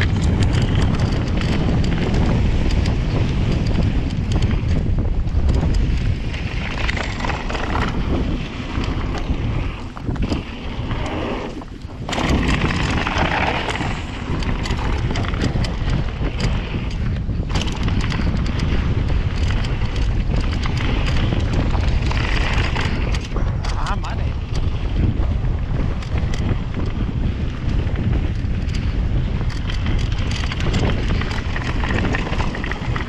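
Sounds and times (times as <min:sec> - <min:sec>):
bike rattling and knocking: 0:00.0 - 0:33.0
bike tyres rolling on dirt: 0:00.0 - 0:33.0
wind rushing over microphone: 0:00.0 - 0:33.0.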